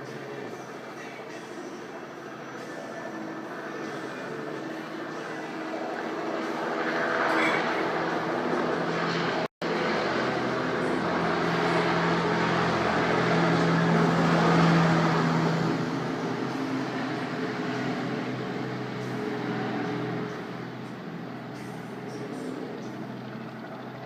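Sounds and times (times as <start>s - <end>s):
helicopter engine and rotor hum: 0.0s - 24.0s.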